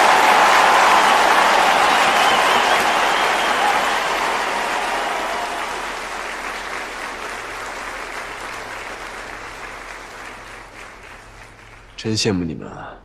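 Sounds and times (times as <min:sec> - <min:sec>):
audience applause: 0:00.0 - 0:12.2.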